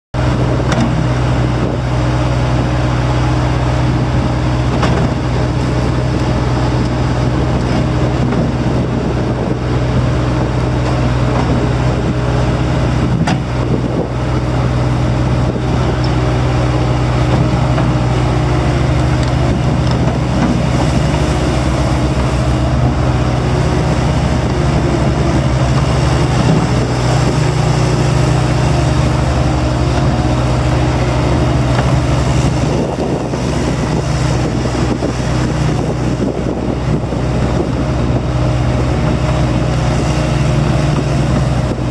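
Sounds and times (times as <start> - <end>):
diesel engine running steadily: 0.1 - 41.9.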